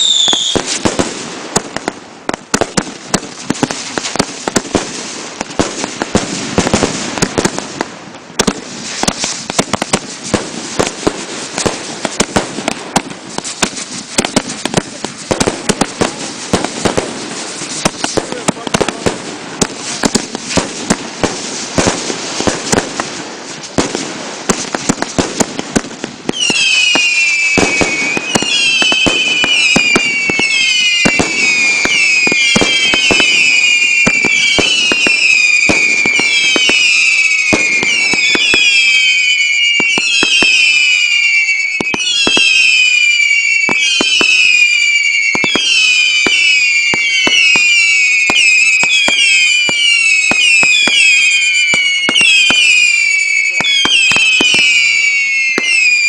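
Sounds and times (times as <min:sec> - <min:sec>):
fireworks bangs: 0:00.0 - 0:56.0
fireworks crackling and popping: 0:00.0 - 0:56.0
whistling fireworks: 0:00.0 - 0:56.0.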